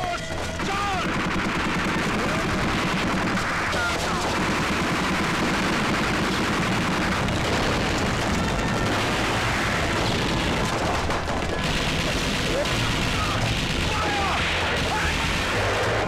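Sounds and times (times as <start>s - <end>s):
machine gun firing: 0.4s - 16.0s.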